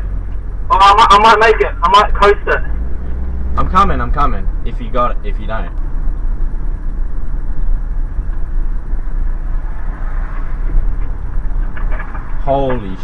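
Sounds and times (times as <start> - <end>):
car rolling along road: 0.0 - 13.0.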